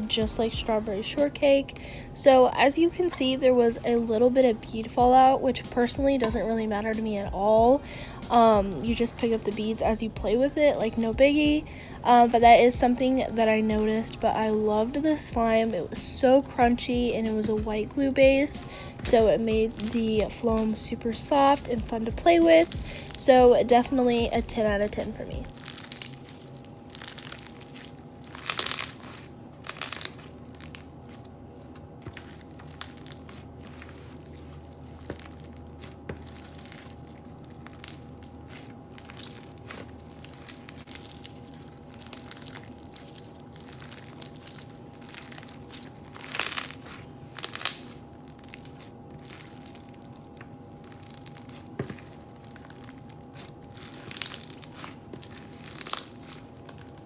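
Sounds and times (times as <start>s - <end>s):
foam-bead slime crunching: 2.2s - 57.0s.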